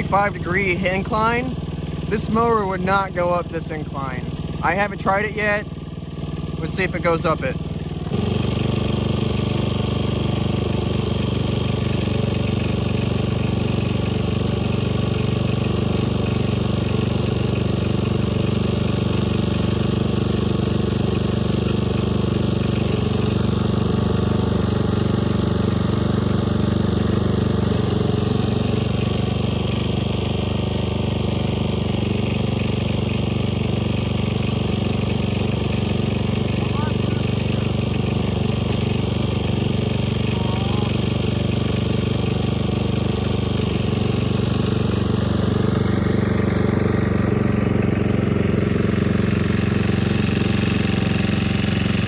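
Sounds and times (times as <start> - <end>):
riding mower engine running: 0.0 - 52.0.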